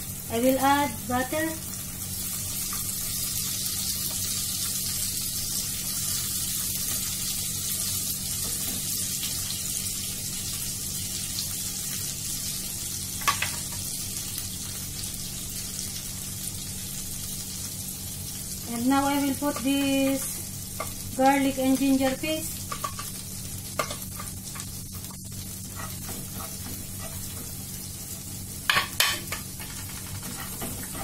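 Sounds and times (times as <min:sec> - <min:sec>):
butter sizzling in frying pan: 0:00.0 - 0:31.0.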